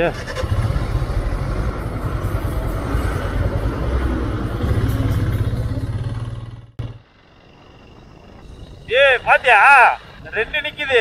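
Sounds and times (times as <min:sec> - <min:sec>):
bus engine: 0:00.0 - 0:10.5
motorcycle engine rumble: 0:00.0 - 0:11.0.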